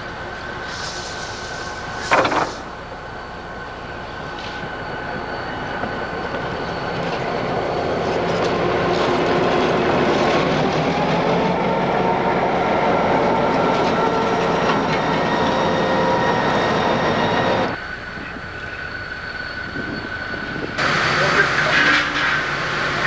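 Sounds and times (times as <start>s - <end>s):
diesel locomotive engines running: 0.0s - 23.0s
steel wheels rolling on rails: 1.1s - 23.0s.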